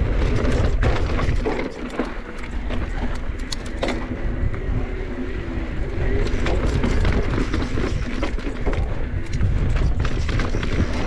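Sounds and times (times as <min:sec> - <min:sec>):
bike rattling: 0:00.0 - 0:11.0.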